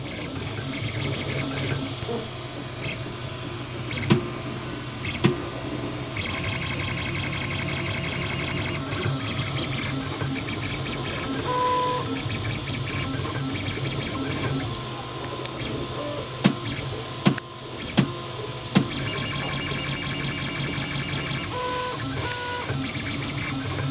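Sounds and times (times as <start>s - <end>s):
stepper motors buzzing: 0.0s - 23.9s.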